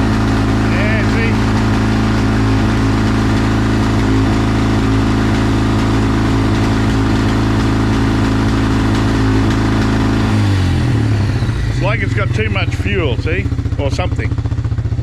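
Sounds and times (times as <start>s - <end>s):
quad bike engine idling: 0.0s - 15.0s.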